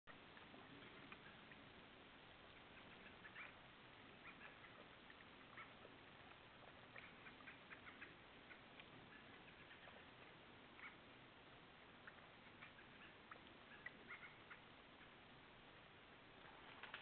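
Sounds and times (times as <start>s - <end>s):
microphone hiss: 0.1s - 17.0s
bears lapping water: 0.2s - 16.6s.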